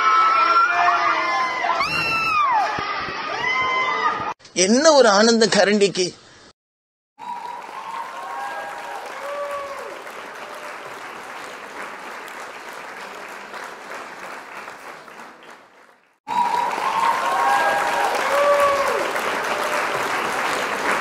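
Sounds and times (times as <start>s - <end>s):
group clapping and cheering: 0.0s - 4.4s, 7.2s - 21.0s.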